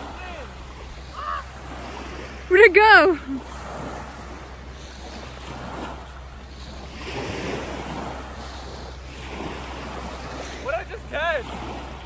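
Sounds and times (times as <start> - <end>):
small waves on sandy shore: 0.0 - 12.0
wind rumbling on microphone: 0.0 - 12.0.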